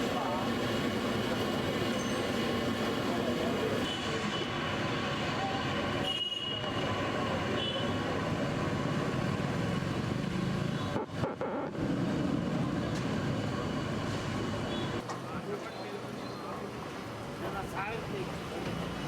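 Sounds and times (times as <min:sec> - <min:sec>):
dense street food stall din: 0:00.0 - 0:19.0.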